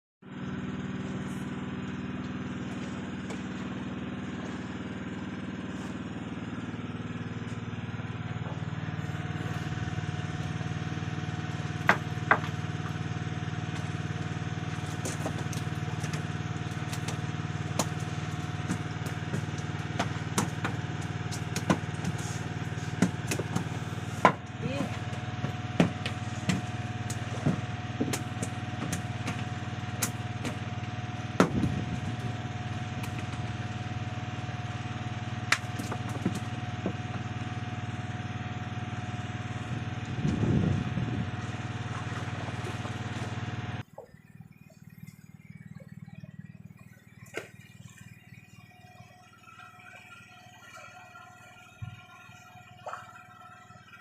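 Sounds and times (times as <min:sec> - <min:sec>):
small engine running: 0:00.2 - 0:54.0.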